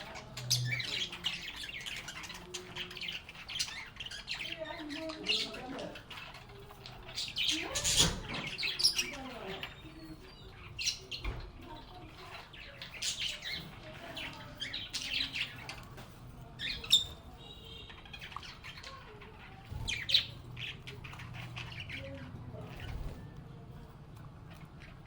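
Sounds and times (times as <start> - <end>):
lovebirds chirping and squawking: 0.0 - 25.0.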